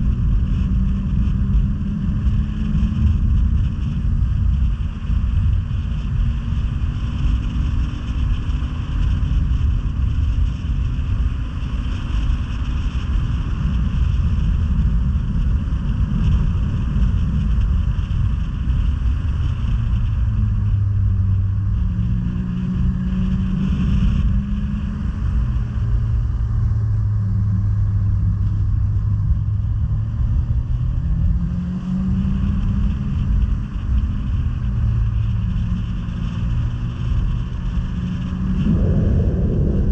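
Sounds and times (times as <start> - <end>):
wind and track noise: 0.0 - 39.9.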